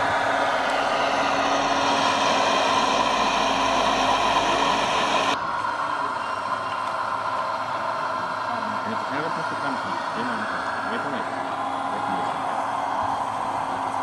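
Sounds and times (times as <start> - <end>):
constant hum: 0.0 - 14.0
model trucks engine drone: 0.0 - 14.0.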